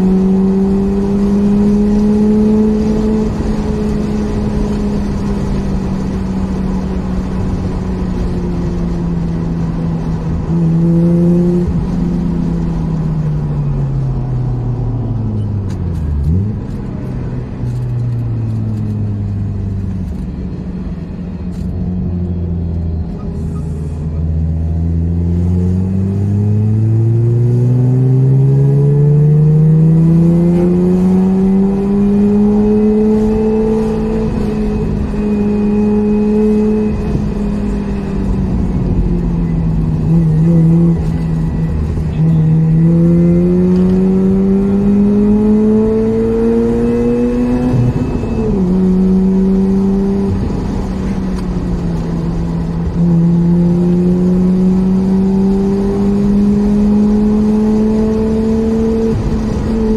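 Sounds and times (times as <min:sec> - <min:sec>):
rotary engine accelerating: 0:00.0 - 0:20.4, 0:21.4 - 0:59.9
tyre and road noise: 0:00.0 - 0:59.9.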